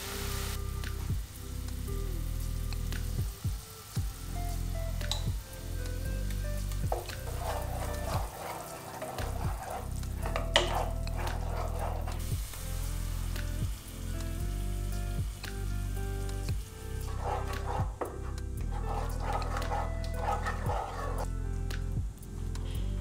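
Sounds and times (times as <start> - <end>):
background music with low bass: 0.0 - 23.0
pan drippings sizzling: 0.0 - 23.0.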